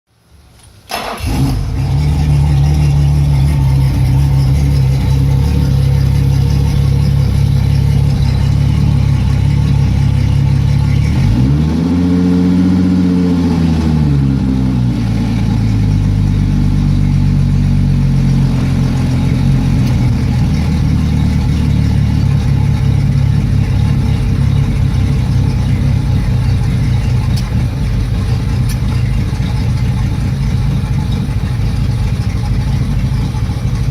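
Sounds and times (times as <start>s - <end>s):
outboard motor idling roughly: 1.3s - 11.5s, 15.0s - 33.9s.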